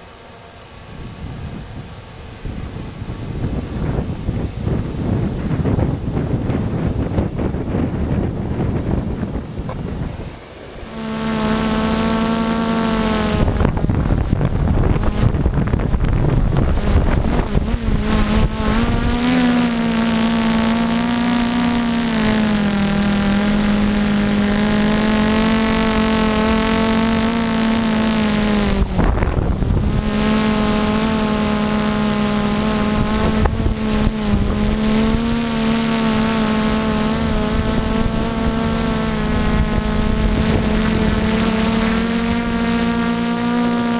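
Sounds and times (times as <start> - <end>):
drone motors humming: 0.0 - 43.9
high motor whine: 0.0 - 43.9
wind buffeting microphone: 0.9 - 43.9.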